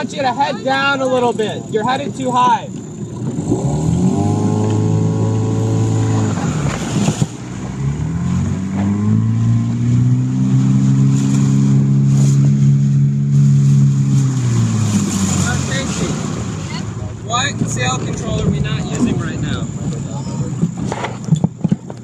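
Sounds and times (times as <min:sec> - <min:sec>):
motorboat engine running: 0:00.0 - 0:22.0.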